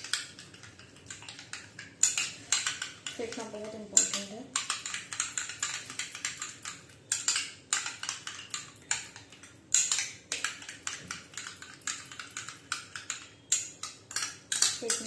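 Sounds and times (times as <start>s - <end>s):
spoon beating in a bowl: 0.0s - 15.0s.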